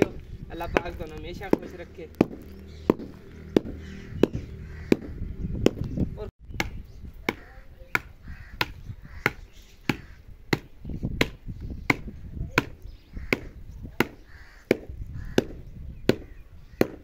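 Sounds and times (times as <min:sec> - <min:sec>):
wooden pole thudding on soil: 0:00.0 - 0:17.0.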